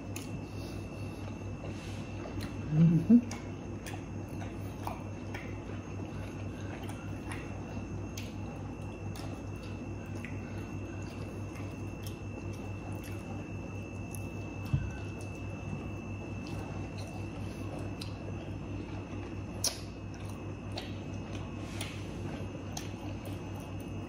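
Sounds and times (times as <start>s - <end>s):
electrical hum with high whine: 0.0s - 24.0s.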